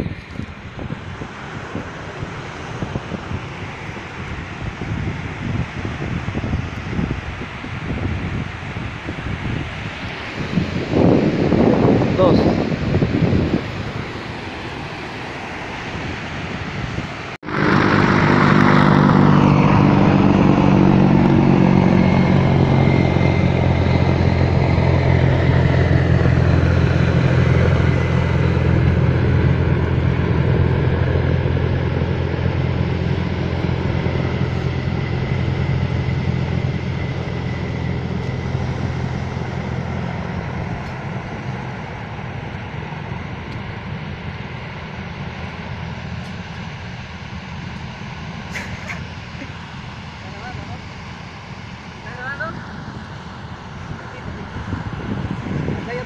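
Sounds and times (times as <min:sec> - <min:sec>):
motor engine running steadily: 0:00.0 - 0:56.0.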